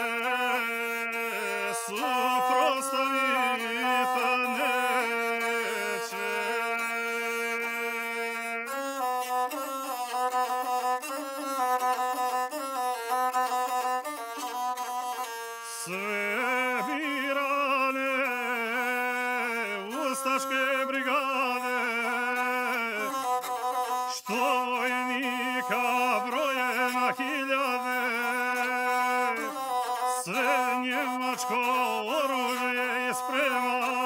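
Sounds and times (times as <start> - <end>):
bowed single-string fiddle: 0.0 - 34.0.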